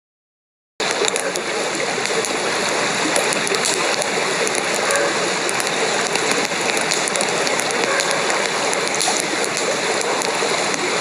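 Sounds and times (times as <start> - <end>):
outdoor ambience hiss: 0.8 - 11.0
sharp crackles: 0.8 - 11.0.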